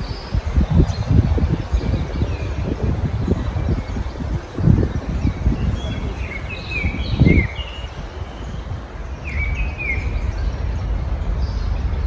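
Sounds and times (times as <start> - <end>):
low background rumble: 0.0 - 12.0
small songbirds chirping: 0.0 - 12.0.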